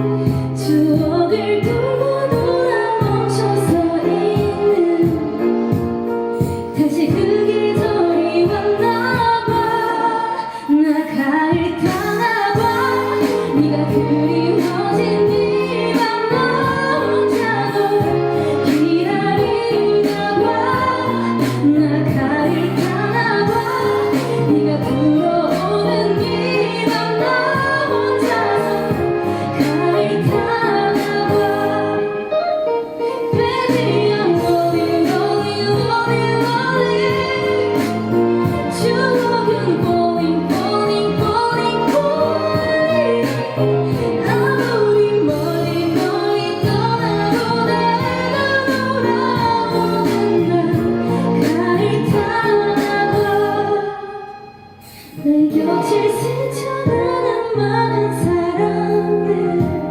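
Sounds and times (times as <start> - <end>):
instrumental accompaniment: 0.0 - 59.9
woman singing pop ballad: 0.0 - 59.9.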